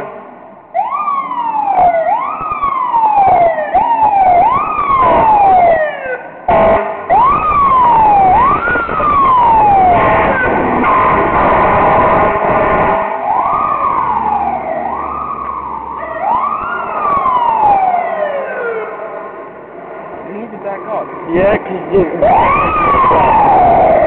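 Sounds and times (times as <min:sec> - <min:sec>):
fire engine siren wailing: 0:00.0 - 0:24.0
steady siren tone: 0:00.0 - 0:24.0.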